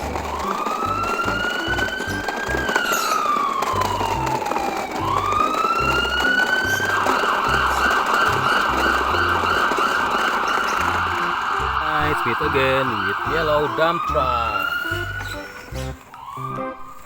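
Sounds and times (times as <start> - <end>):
siren wailing and yelping: 0.0 - 17.0.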